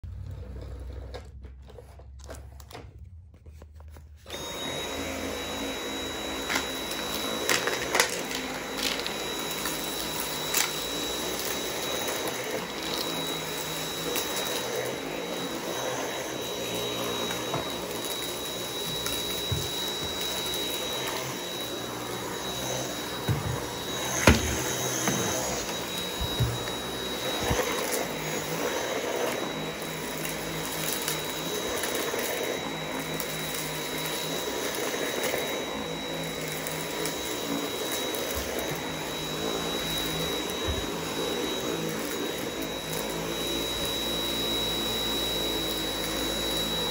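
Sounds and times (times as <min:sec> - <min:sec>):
vacuum cleaner whine: 0:00.0 - 0:02.9, 0:03.5 - 0:46.9.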